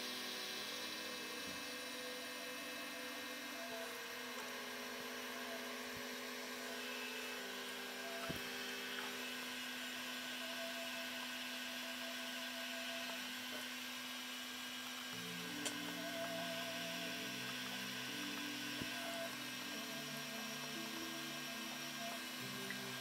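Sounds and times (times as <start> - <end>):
pottery wheel motor humming: 0.0 - 23.0.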